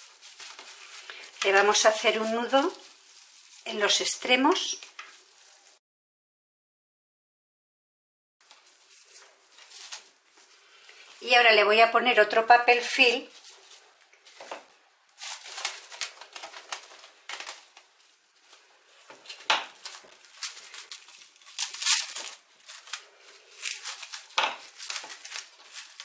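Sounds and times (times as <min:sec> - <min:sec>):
cling film crinkling: 0:00.0 - 0:05.8, 0:08.4 - 0:11.2, 0:13.3 - 0:26.0.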